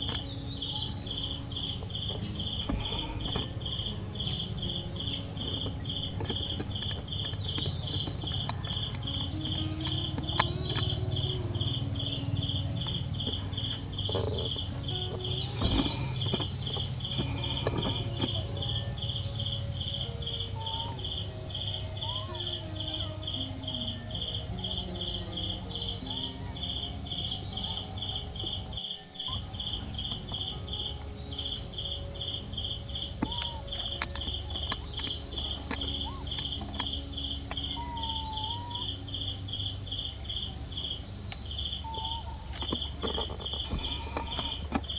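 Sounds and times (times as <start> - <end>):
high-pitched insect whine: 0.0 - 44.9
insects pulsing chirp: 0.0 - 44.9.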